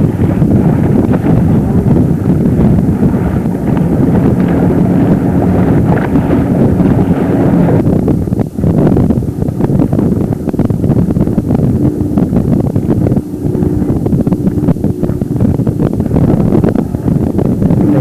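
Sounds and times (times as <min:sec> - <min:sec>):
motorboat engine droning: 0:00.0 - 0:18.0
wind buffeting microphone: 0:00.0 - 0:18.0.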